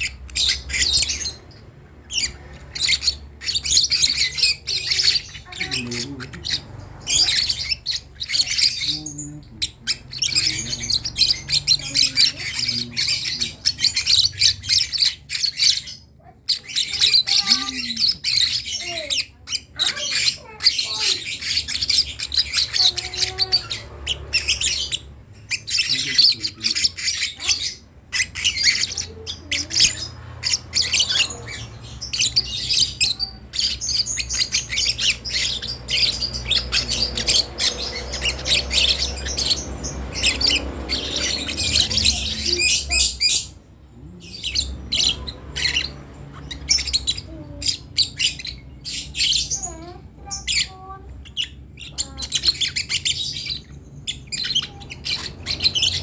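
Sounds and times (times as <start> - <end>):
lovebird chick chirping and squawking: 0.0 - 56.0.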